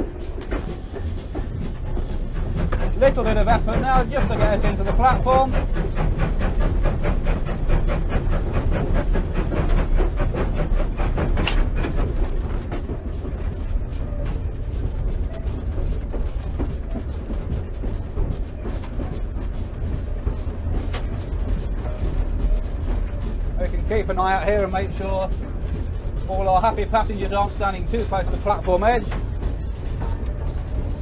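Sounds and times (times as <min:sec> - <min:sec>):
engine rumbling over rails: 0:00.0 - 0:31.0
steam locomotive exhaust beats: 0:00.0 - 0:31.0.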